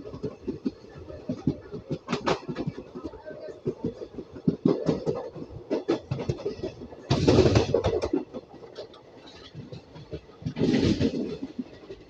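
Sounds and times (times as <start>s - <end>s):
train wheels clattering on track: 0.0s - 12.0s.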